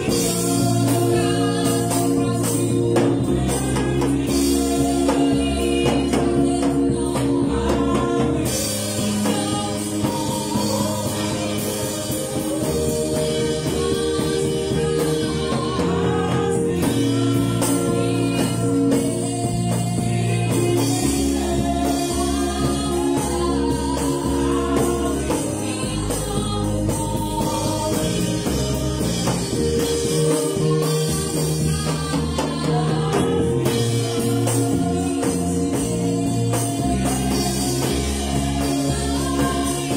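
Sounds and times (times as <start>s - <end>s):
drum kit: 0.0s - 39.9s
keyboard chords: 0.0s - 39.9s
woman singing: 0.0s - 39.9s.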